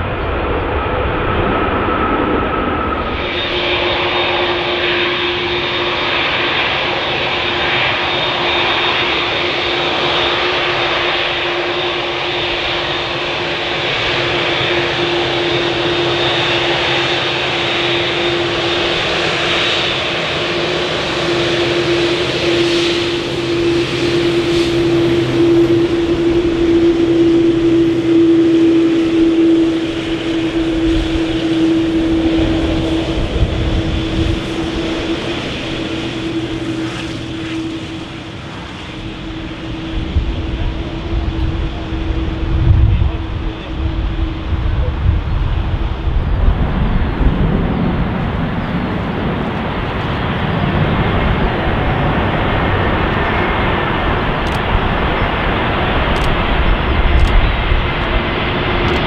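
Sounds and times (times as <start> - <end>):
jet engines whining and rushing: 0.0 - 59.0.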